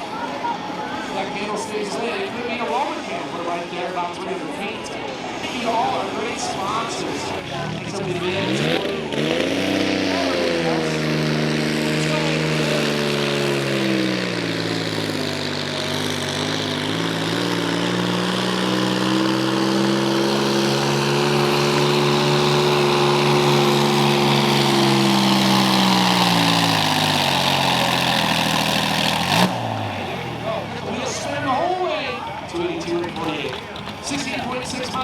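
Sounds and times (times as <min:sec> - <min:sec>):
tractor engine running hard: 0:00.0 - 0:35.0.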